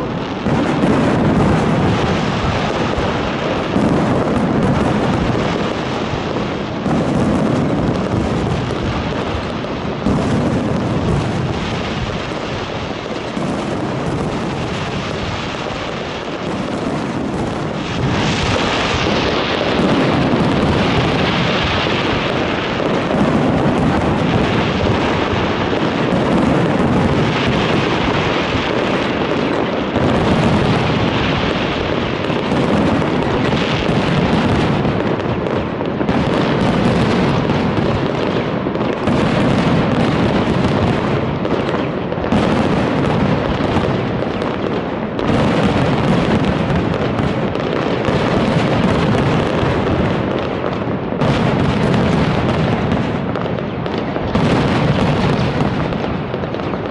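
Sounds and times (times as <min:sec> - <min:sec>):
fireworks crackling: 0:00.0 - 0:56.9.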